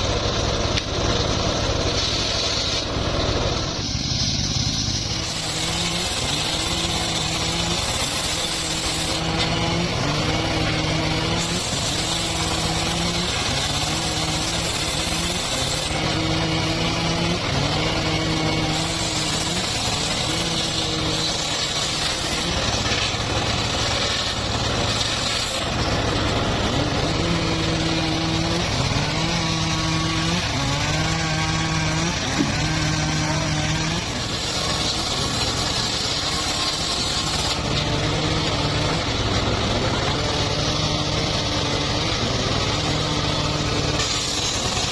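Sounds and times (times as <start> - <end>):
sawmill sawing wood: 0.0 - 44.9.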